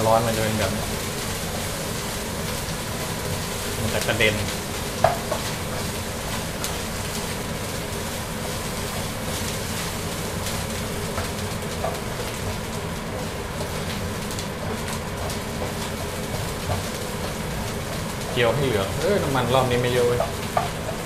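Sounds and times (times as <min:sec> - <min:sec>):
aromatics sizzling in hot oil: 0:00.0 - 0:21.0
range-hood fan drone: 0:00.0 - 0:21.0.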